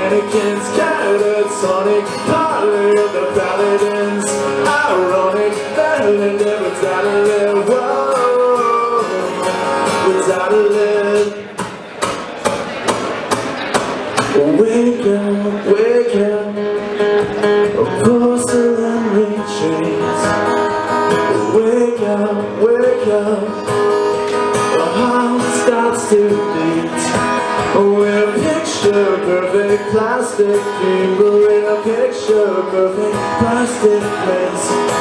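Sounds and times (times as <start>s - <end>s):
man singing: 0.0s - 11.7s, 14.2s - 35.0s
acoustic guitar strumming: 0.0s - 35.0s.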